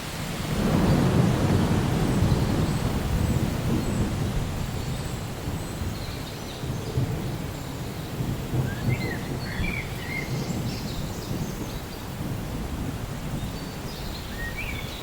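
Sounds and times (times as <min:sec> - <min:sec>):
rain falling: 0:00.0 - 0:15.0
distant thunder rumbling: 0:00.4 - 0:14.9.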